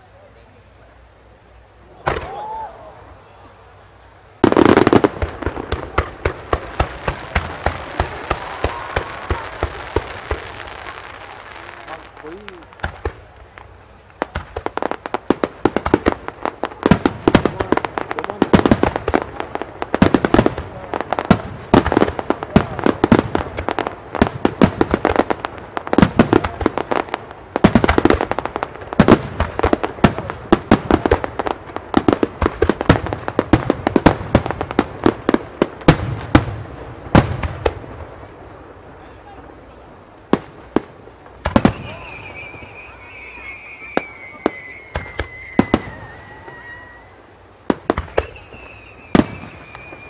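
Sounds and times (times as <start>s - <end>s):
fireworks launching and bursting: 1.6s - 50.0s.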